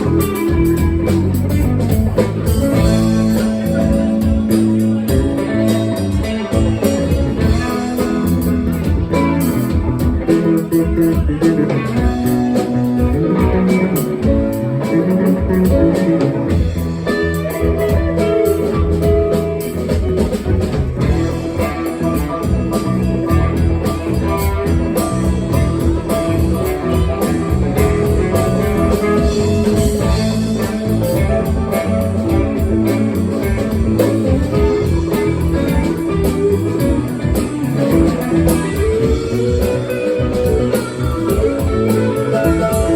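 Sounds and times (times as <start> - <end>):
bass: 0.0 - 42.9
drum kit beat: 0.0 - 42.9
guitar: 0.0 - 42.9.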